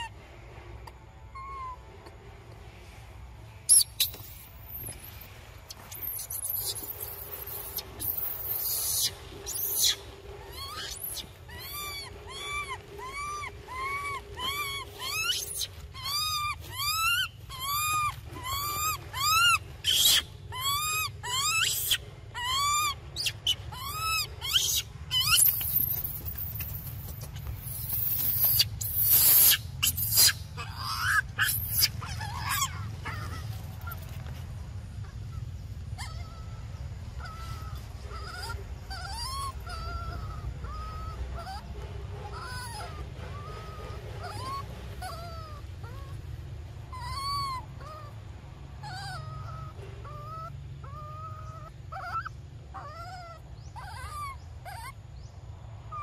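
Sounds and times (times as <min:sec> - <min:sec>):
baby monkey crying: 0:01.2 - 0:02.2, 0:03.7 - 0:55.3.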